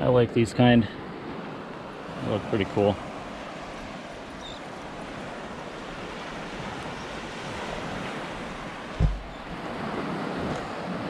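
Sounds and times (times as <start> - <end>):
surf washing on beach: 0.0 - 11.0
wind buffeting microphone: 2.1 - 11.0.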